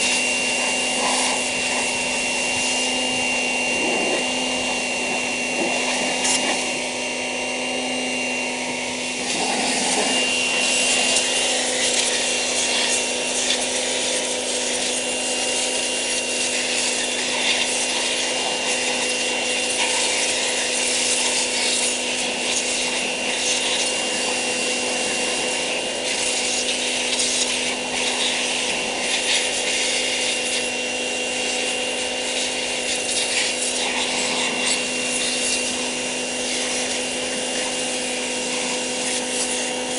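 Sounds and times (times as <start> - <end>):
pressure washer pump whine: 0.0 - 39.9
water jet hissing: 0.0 - 39.9.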